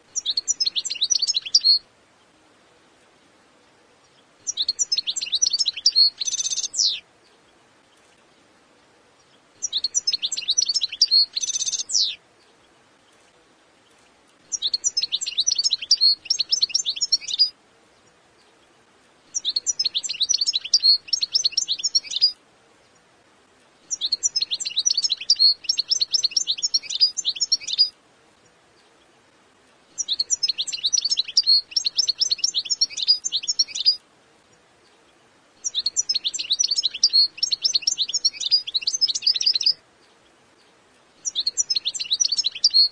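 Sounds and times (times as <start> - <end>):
goldfinch twittering song: 0.1 - 2.3, 4.0 - 8.5, 9.2 - 18.7, 19.3 - 23.1, 23.8 - 28.0, 29.9 - 34.0, 34.8 - 42.9.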